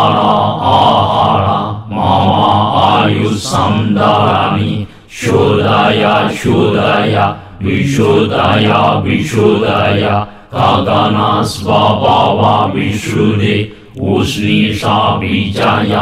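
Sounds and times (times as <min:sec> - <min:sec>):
person chanting melodically: 0:00.0 - 0:16.0.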